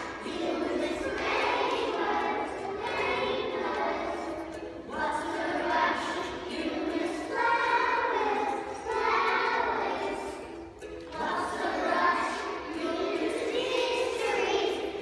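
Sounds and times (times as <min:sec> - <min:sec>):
children's choir singing: 0:00.0 - 0:15.0.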